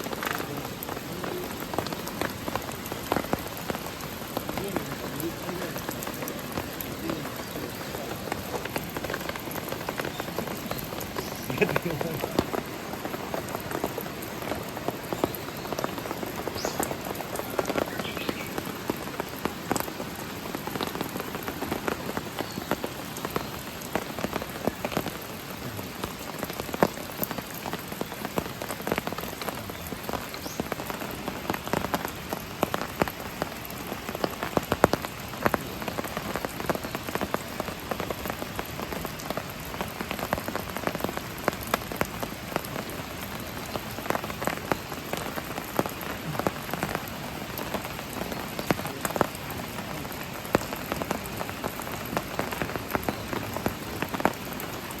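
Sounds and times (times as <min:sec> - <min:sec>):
raindrops ticking: 0:00.0 - 0:55.0
steady rain falling: 0:00.0 - 0:55.0.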